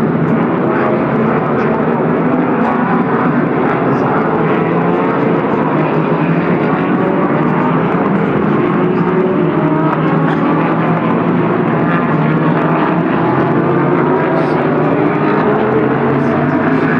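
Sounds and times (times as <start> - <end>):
race car engines: 0.0 - 16.9.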